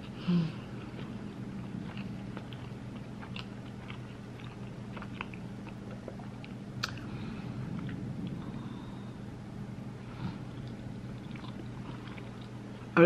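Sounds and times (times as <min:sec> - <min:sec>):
person chewing food: 0:00.0 - 0:09.0, 0:10.3 - 0:12.9
low hum: 0:00.0 - 0:13.0.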